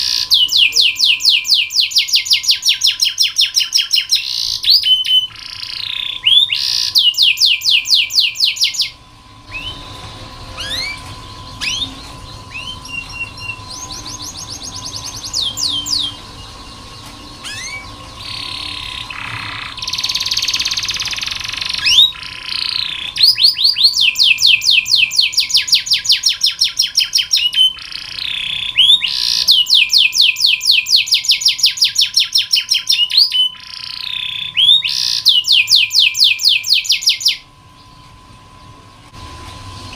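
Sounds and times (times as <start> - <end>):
canary singing trills: 0.0 - 38.0.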